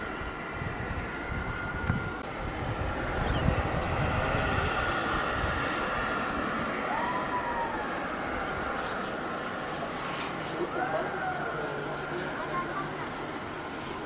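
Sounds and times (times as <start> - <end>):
turboprop engines droning: 0.0 - 14.0
wind gusting on microphone: 0.0 - 14.0.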